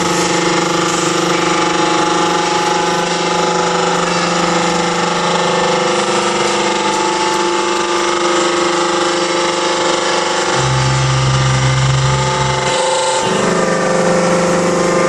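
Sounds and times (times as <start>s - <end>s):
hydraulic pump humming and whining: 0.0s - 15.0s.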